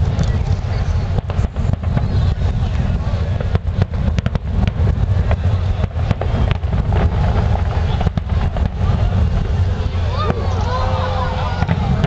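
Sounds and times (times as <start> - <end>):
fireworks cracking and banging: 0.0 - 12.0
low rumble: 0.0 - 12.0.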